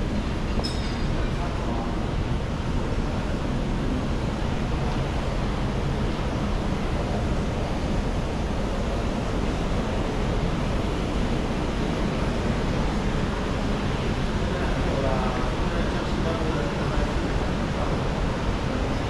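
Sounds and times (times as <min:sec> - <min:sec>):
steady rushing noise with rumble: 0:00.0 - 0:19.0.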